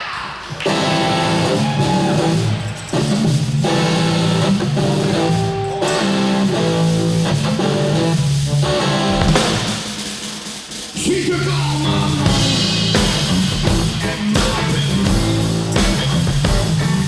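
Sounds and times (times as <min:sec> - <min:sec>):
guitar chords: 0:00.6 - 0:10.3, 0:11.0 - 0:17.0.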